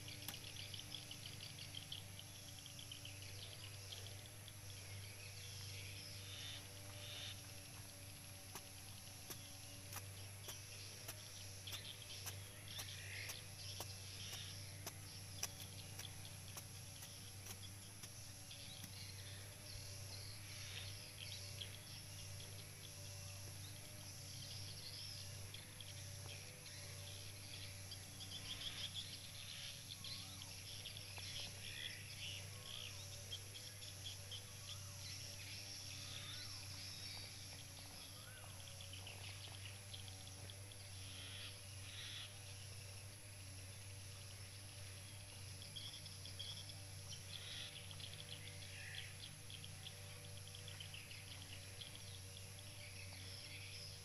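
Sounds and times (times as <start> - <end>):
birds chirping: 0.0 - 54.0
faint low hum: 0.0 - 54.0
insects calling: 0.0 - 54.0.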